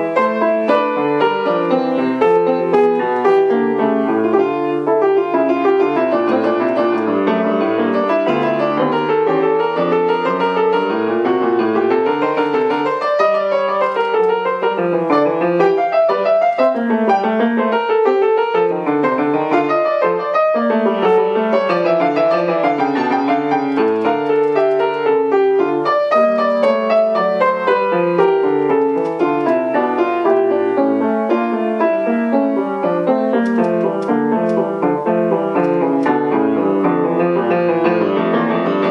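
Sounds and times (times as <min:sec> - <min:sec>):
solo classical piano: 0:00.0 - 0:38.9.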